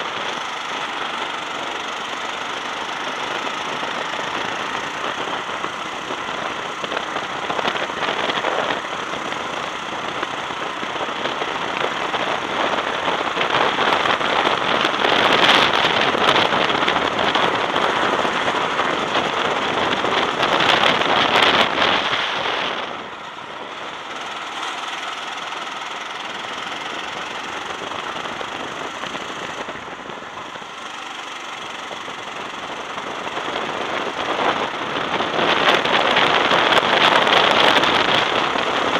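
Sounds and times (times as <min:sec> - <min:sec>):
go-kart engine running hard: 0:00.0 - 0:38.9.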